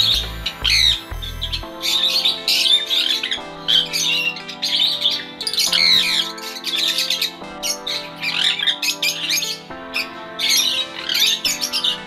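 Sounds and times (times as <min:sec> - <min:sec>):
background music held chords: 0:00.0 - 0:12.0.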